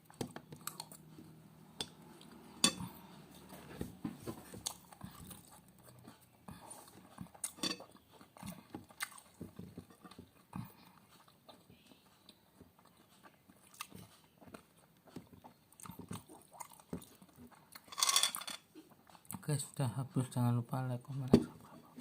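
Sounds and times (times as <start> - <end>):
person chewing food: 0.0 - 17.9, 18.6 - 19.5.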